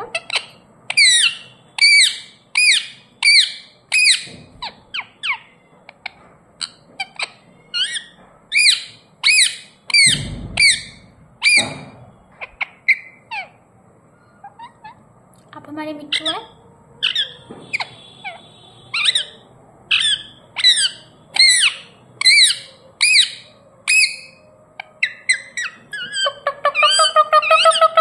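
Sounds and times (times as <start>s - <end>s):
parrot squawking: 0.0s - 5.6s, 6.6s - 11.8s, 14.4s - 15.0s, 16.1s - 24.4s, 25.0s - 28.0s.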